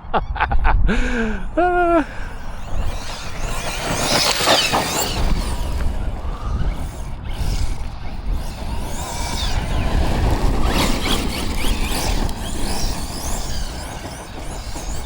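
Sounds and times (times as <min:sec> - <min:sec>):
wind buffeting microphone: 0:00.0 - 0:15.0
electric motor high whine: 0:00.9 - 0:15.0
tyres tearing over dirt: 0:01.5 - 0:15.0.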